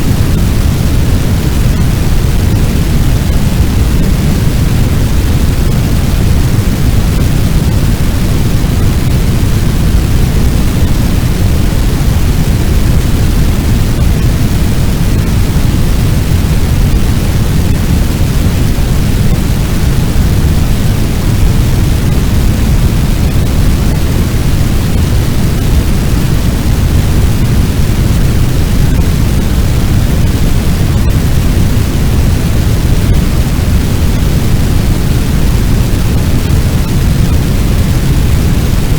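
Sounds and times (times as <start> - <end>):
loud roaring fire: 0.0 - 38.9.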